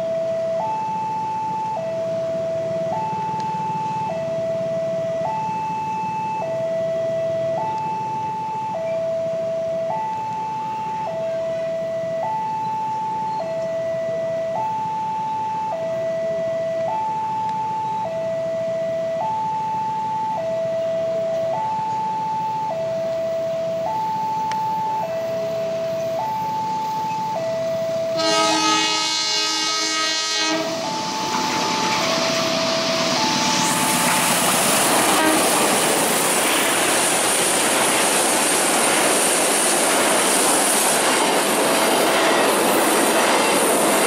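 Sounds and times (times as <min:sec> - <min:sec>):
two-tone crossing alarm: 0:00.0 - 0:44.0.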